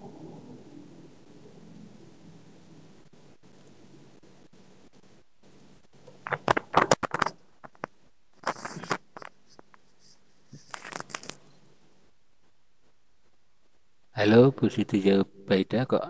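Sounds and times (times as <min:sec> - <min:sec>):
background hiss: 0:00.0 - 0:16.0
crackling bursts of noise: 0:00.0 - 0:16.0.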